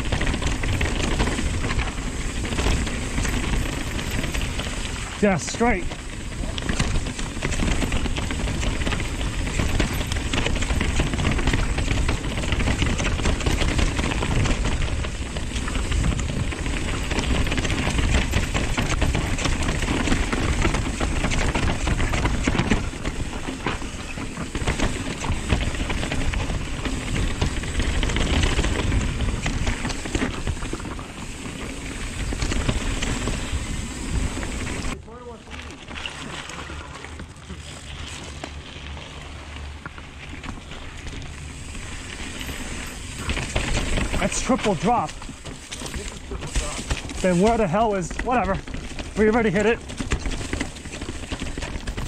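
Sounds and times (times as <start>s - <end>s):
bike parts rattling: 0.0s - 52.0s
bike tyres rolling over dirt: 0.0s - 52.0s.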